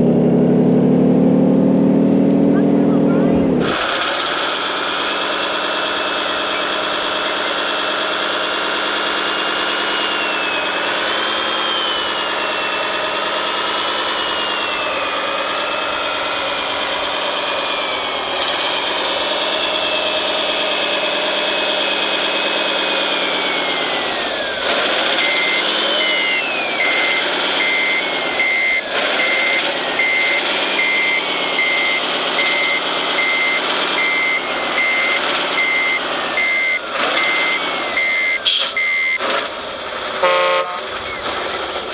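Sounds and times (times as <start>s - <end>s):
reversing beeper: 1.8s - 39.6s, 40.2s - 41.9s
toy construction vehicle engine: 2.2s - 41.9s.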